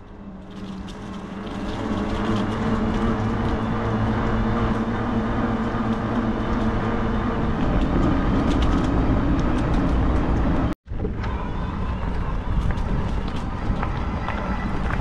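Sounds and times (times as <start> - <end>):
bike clicks and rattles: 0.0 - 15.0
bike tyres rumbling on trail: 0.0 - 15.0
wind on microphone: 1.3 - 15.0.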